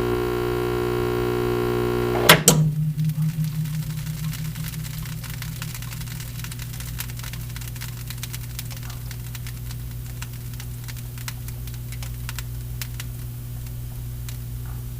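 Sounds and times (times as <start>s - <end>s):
faint clicks and crackle: 0.0s - 14.9s
low electrical hum: 0.0s - 14.9s.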